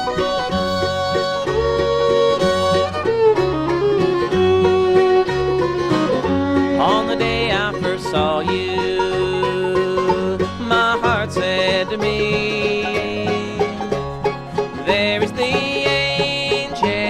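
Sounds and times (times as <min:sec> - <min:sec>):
banjo: 0:00.0 - 0:17.0
bass: 0:00.0 - 0:17.0
fiddle: 0:00.0 - 0:17.0
guitar: 0:00.0 - 0:17.0.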